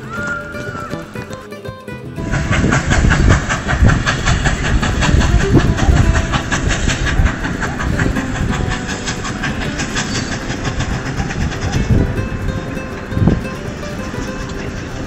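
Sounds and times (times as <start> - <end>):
steam locomotive exhaust beats: 0.0 - 15.0
wheels clattering on rails: 0.0 - 15.0.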